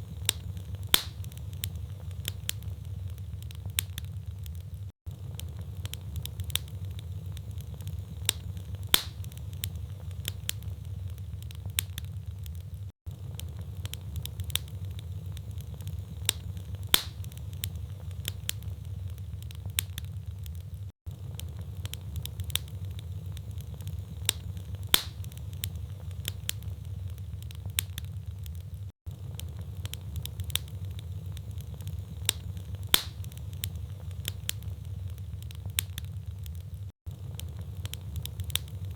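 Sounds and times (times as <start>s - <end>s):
logs crackling and popping: 0.0s - 38.9s
low rumble of flames: 0.0s - 38.9s.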